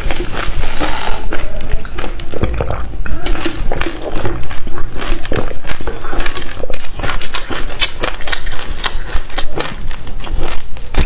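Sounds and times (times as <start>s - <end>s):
crunchy chewing of fruit seeds: 0.0s - 11.0s.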